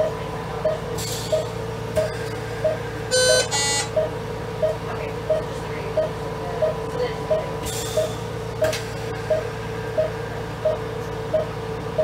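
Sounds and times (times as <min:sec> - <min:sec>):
patient monitor beeping: 0:00.0 - 0:07.4, 0:08.6 - 0:12.0
machine hum: 0:00.0 - 0:12.0.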